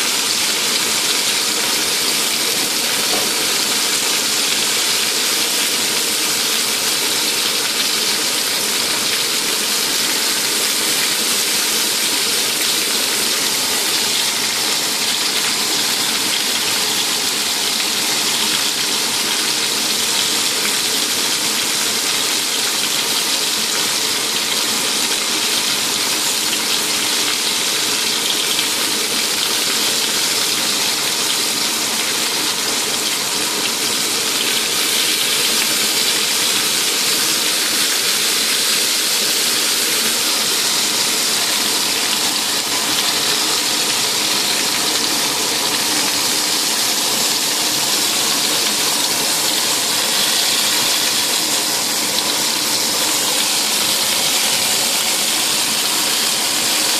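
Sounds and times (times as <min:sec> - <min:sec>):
vegetables sizzling in oil: 0:00.0 - 0:56.9.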